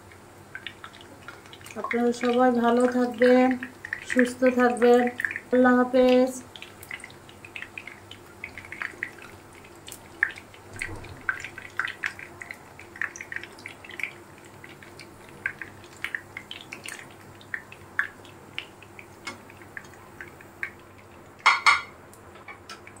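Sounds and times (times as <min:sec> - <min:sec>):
oil sizzling in a frying pan: 0:00.0 - 0:23.0.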